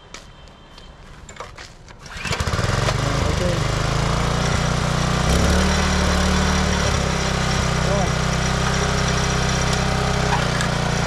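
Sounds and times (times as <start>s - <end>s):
small engine pull-started and running: 2.0s - 11.0s.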